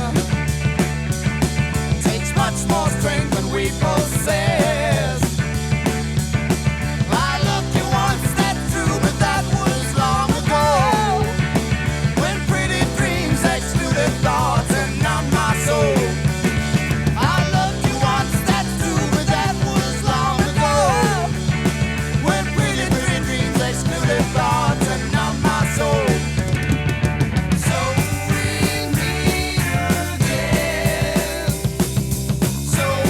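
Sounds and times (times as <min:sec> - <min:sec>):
progressive rock band playing: 0:00.0 - 0:33.0.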